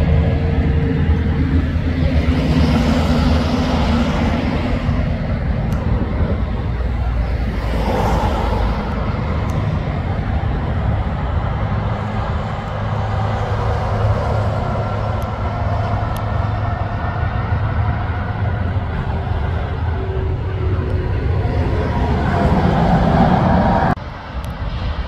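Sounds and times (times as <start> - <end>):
rushing tyre noise: 0.0 - 25.0
truck engine drone: 0.0 - 25.0.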